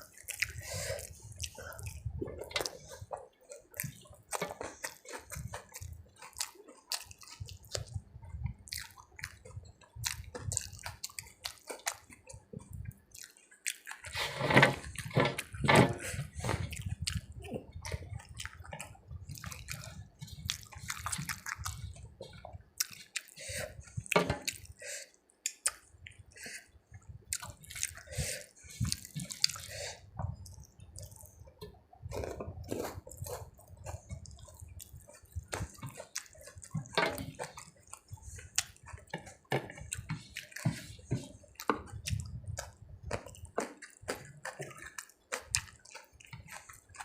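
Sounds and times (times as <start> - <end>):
wet chewing: 0.0 - 47.0.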